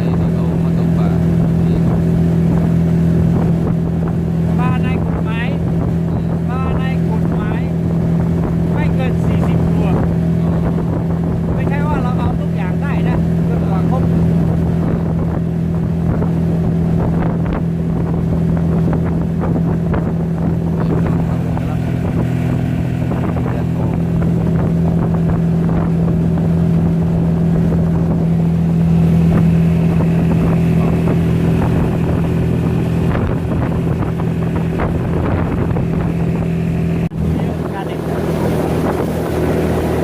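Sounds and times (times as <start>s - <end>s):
motorboat engine droning: 0.0s - 40.0s.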